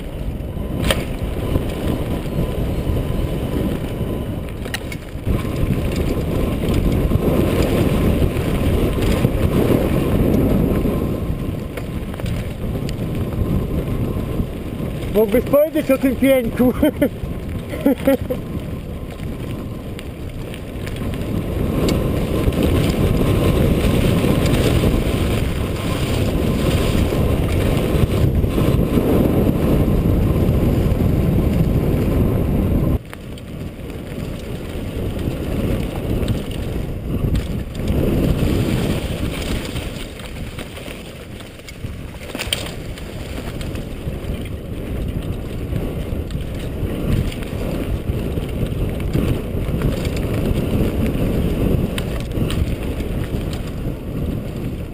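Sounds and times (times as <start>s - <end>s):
bike tyres rumbling on dirt: 0.0s - 54.9s
wind buffeting microphone: 0.0s - 54.9s.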